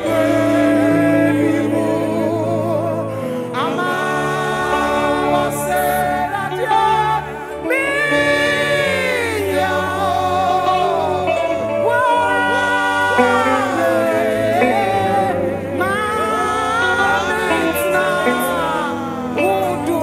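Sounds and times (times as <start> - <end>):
gospel singing: 0.0 - 20.0
low sustained accompaniment: 0.0 - 20.0.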